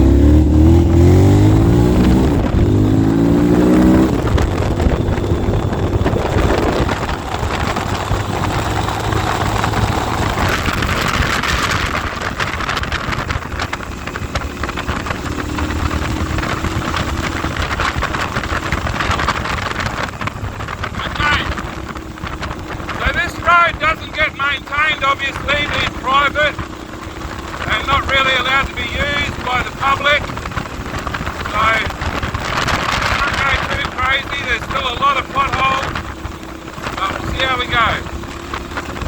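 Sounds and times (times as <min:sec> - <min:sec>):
motorcycle engine revving: 0:00.0 - 0:39.0
wind noise on microphone: 0:00.0 - 0:39.0.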